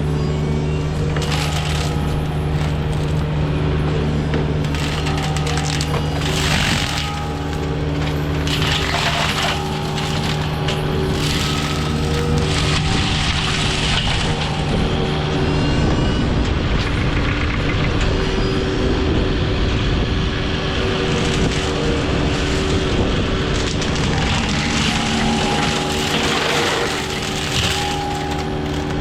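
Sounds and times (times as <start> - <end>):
mulcher head shredding wood: 0.0 - 16.0, 20.4 - 29.0
diesel engine running at high revs: 0.0 - 29.0.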